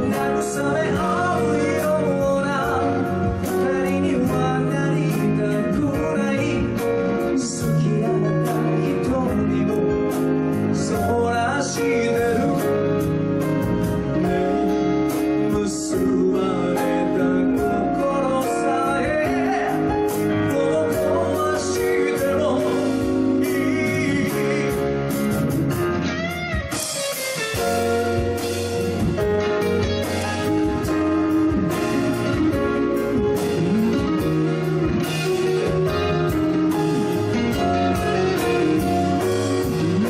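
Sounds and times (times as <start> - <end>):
man singing pop ballad: 0.0 - 25.4, 27.6 - 40.0
band playing: 0.0 - 40.0.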